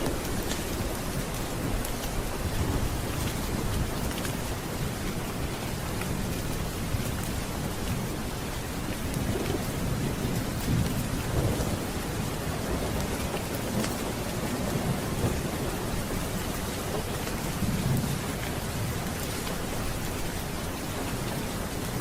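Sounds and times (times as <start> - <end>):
heavy rain: 0.0 - 22.0
low thunder rumbling: 0.0 - 22.0.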